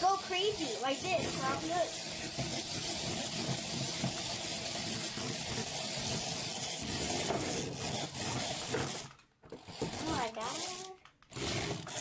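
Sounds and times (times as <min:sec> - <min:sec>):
toy hissing rasp: 0:00.0 - 0:12.0.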